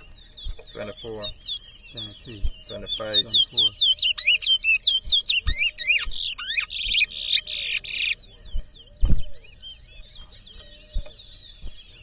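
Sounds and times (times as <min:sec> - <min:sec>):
finch singing whistles and trills: 0:00.0 - 0:12.0.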